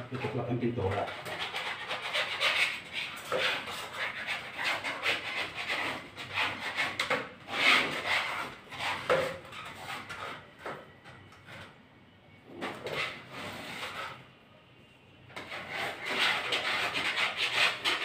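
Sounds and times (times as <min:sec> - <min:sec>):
scraper rasping wallpaper off wall: 0:00.1 - 0:10.6, 0:12.8 - 0:14.2, 0:15.4 - 0:18.0.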